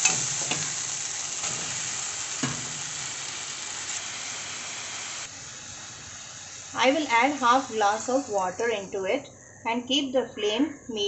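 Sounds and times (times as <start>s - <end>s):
prawns sizzling in a pan: 0.0s - 9.2s.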